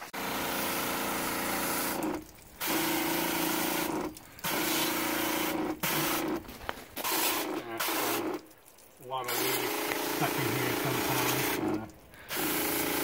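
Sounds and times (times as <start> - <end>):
pressure washer water hissing: 0.0 - 13.0
pump humming: 0.0 - 13.0.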